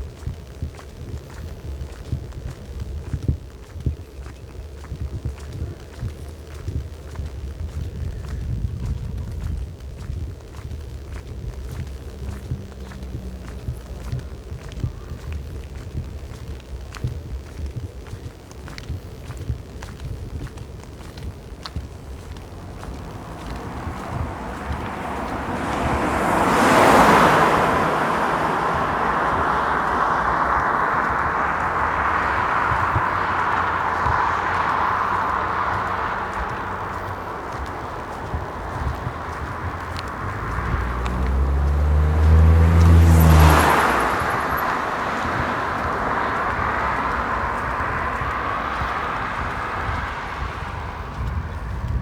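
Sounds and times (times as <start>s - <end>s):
car passing by: 4.9s - 15.8s, 21.0s - 52.0s.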